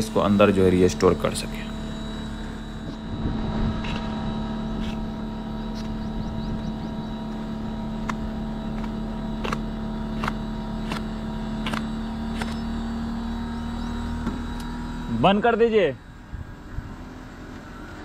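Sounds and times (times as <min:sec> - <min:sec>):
air conditioner unit humming: 0:00.0 - 0:17.5.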